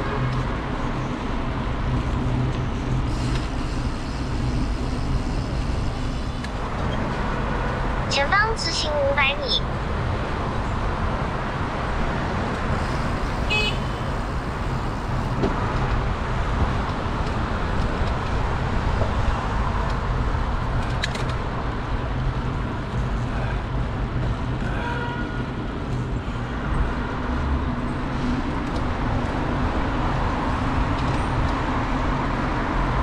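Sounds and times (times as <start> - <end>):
motor traffic: 0.0 - 33.0.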